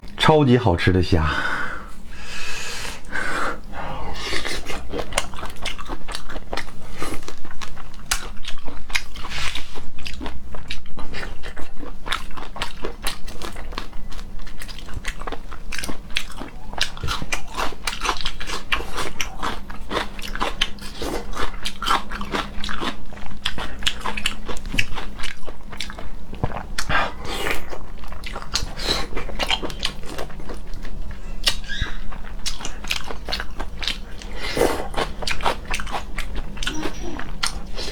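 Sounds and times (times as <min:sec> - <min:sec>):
person chewing crunchy shrimp: 0:02.8 - 0:37.9.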